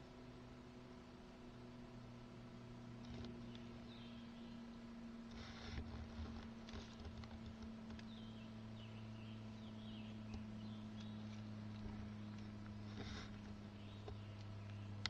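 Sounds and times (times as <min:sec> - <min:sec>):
songbird chirping: 0:00.0 - 0:05.3, 0:06.4 - 0:15.0
steady low hum: 0:00.0 - 0:15.0.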